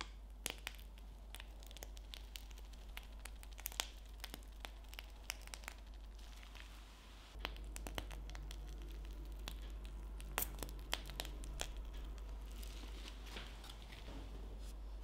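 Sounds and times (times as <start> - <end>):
dough squishing out: 0.0 - 14.1
piping bag crinkling: 0.1 - 14.1.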